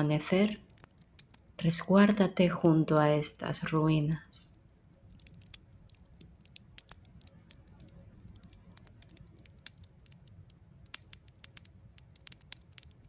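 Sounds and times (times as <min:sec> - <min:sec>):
campfire crackling: 0:00.0 - 0:02.1, 0:03.7 - 0:13.0
faint low rumble: 0:00.0 - 0:13.0.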